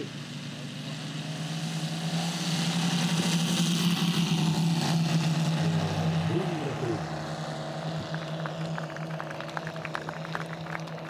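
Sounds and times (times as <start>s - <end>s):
model airplane engines droning: 0.0s - 11.0s.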